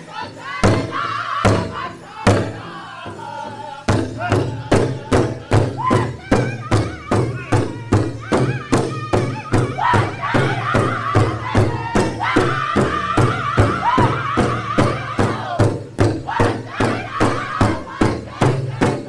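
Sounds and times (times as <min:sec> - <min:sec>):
drum group singing in high voices: 0:00.0 - 0:19.0
large drum beating: 0:00.6 - 0:19.0.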